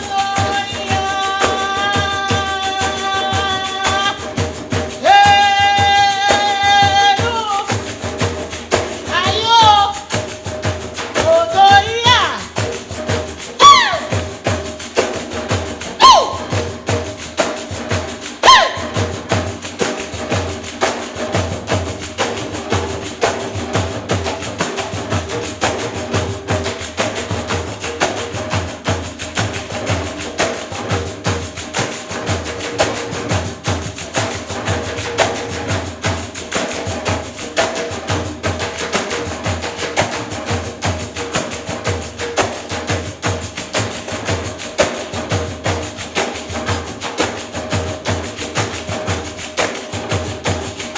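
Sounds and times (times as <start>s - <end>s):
frame drums with jingles: 0.0s - 50.9s.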